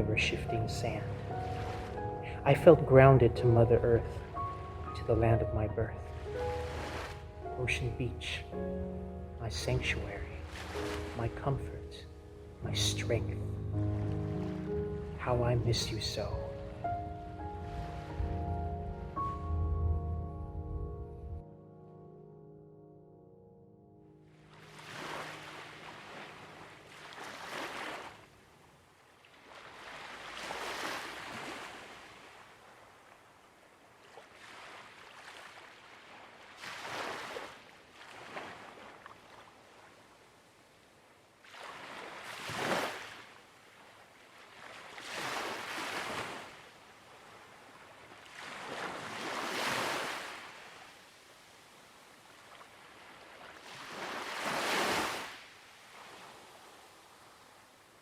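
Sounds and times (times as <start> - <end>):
waves breaking on shore: 0.0 - 8.6, 9.4 - 15.6, 24.3 - 58.0.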